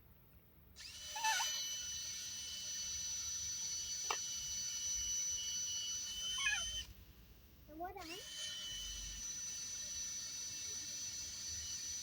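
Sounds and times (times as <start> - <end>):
electric drill whining: 0.8 - 7.0, 8.0 - 12.0.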